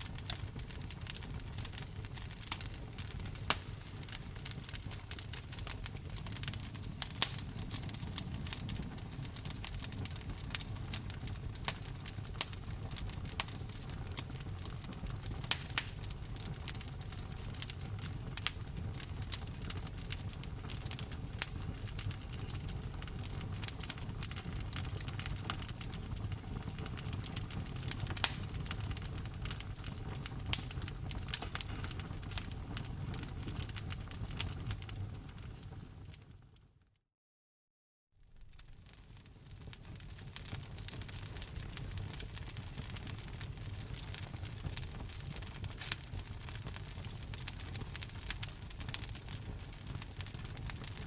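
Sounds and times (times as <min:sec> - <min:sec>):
wood fire crackling: 0:00.0 - 0:36.6, 0:38.2 - 0:51.0.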